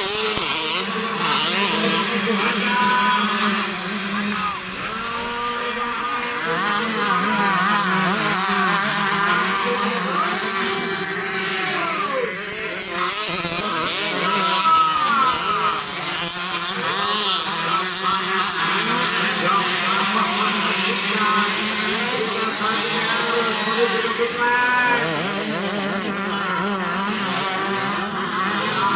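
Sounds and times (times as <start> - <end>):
motocross bike engines revving: 0.0 - 28.9.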